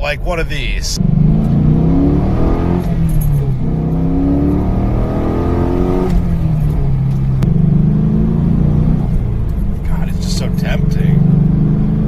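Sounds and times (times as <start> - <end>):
car engine accelerating hard: 1.0 - 12.0.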